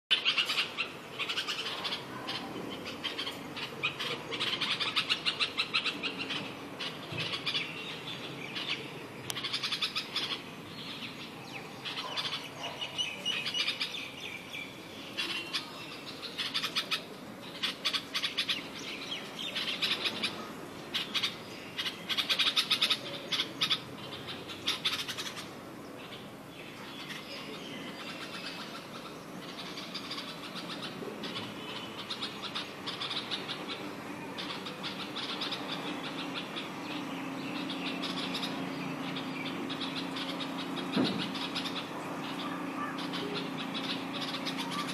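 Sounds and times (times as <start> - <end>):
small birds chirping: 0.1 - 44.9.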